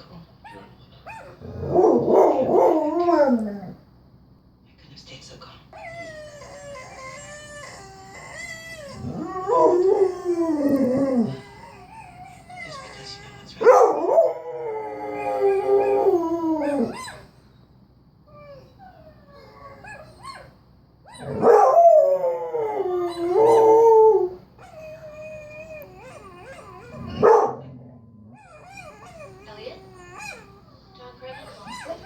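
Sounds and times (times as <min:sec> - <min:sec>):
dog howling: 0:01.1 - 0:03.8, 0:05.8 - 0:17.4, 0:18.3 - 0:32.0.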